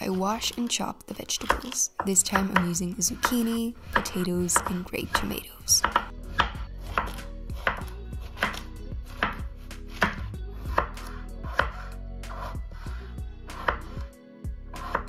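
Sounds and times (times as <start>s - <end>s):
knife chopping vegetables: 0.0s - 14.1s, 14.7s - 15.0s.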